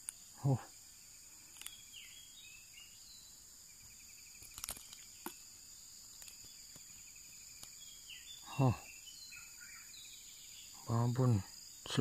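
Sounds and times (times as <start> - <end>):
insect buzzing chorus: 0.0 - 12.0
pulsed insect trill: 0.0 - 12.0.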